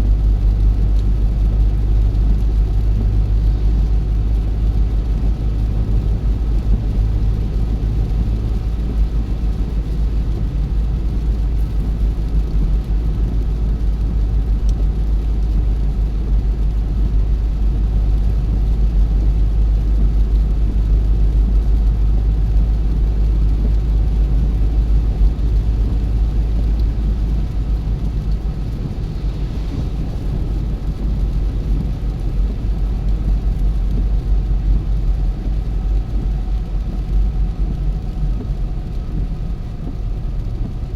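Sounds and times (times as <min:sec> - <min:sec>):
car engine running: 0:00.0 - 0:40.9
tyres rumbling on road: 0:00.0 - 0:40.9.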